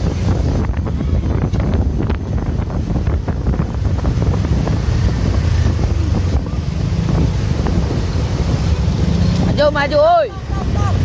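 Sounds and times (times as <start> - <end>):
passing bus rumble: 0.0 - 11.0
wind buffeting microphone: 0.0 - 11.0.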